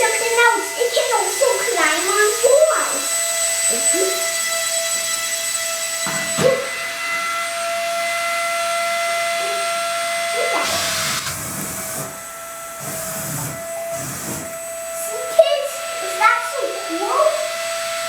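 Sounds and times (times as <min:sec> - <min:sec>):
suction fan whining and hissing: 0:00.0 - 0:18.0.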